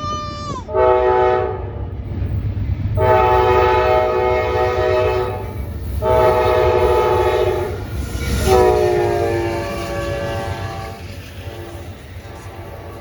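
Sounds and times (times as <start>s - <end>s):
passing train rumble: 0.0s - 13.0s
locomotive air horn blasts: 0.7s - 1.7s, 3.0s - 13.0s.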